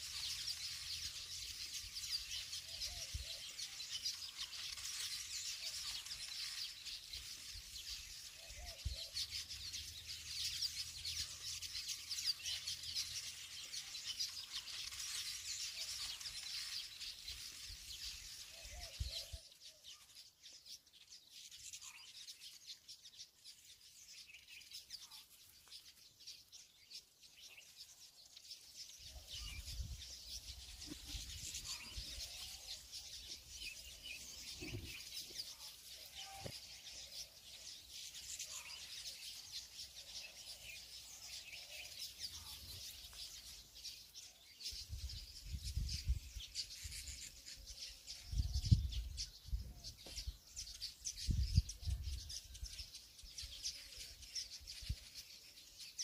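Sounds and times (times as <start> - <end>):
small birds twittering: 0.0 - 56.0.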